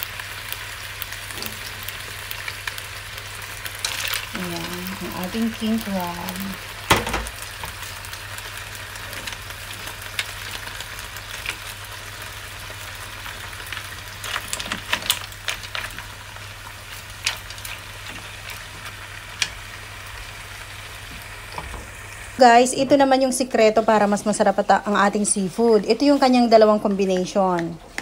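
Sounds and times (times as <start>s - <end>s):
seafood sizzling in butter: 0.0s - 27.2s.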